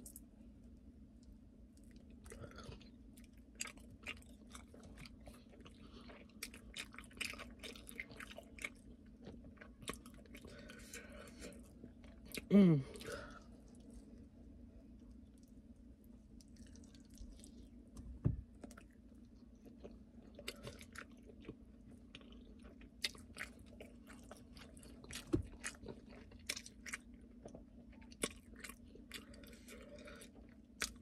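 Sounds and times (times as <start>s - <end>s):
faint low hum: 0.0s - 31.0s
wet chewing and lip smacking: 1.2s - 14.3s, 16.3s - 17.9s, 18.6s - 31.0s.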